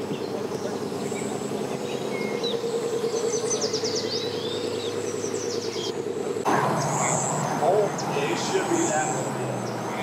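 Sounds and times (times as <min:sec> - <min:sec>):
birds chirping: 0:00.0 - 0:10.0
engine running at low revs: 0:00.0 - 0:10.0.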